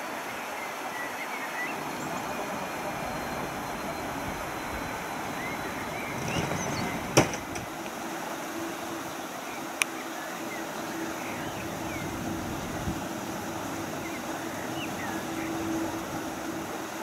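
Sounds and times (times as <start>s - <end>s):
jet engine rushing with whine: 0.0s - 17.0s.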